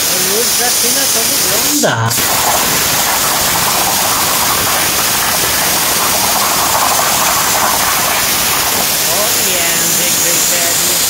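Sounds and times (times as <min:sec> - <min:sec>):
plasma cutter hissing: 0:00.0 - 0:11.0.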